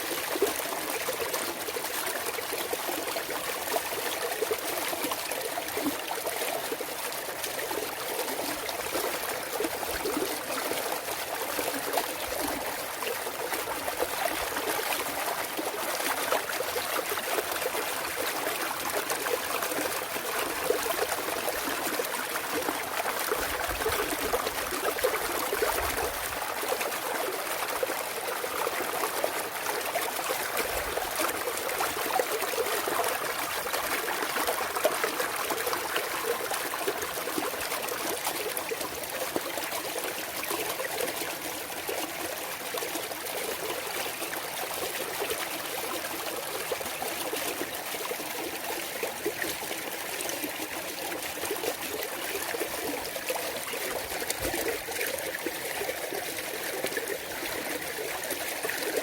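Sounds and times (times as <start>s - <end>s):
stream water splashing over rocks: 0.0s - 59.0s.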